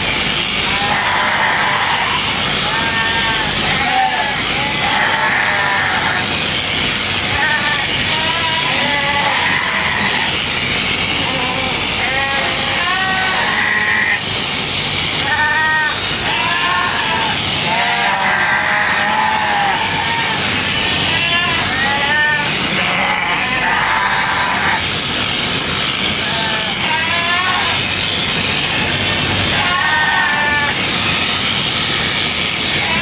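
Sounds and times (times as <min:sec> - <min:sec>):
steady loud background noise: 0:00.0 - 0:33.0
sheep bleating: 0:00.6 - 0:14.3, 0:15.0 - 0:27.9, 0:29.5 - 0:30.9, 0:32.6 - 0:33.0.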